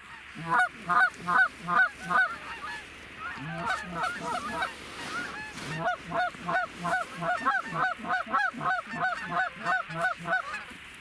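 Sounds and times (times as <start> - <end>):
goose call honking: 0.0 - 10.8.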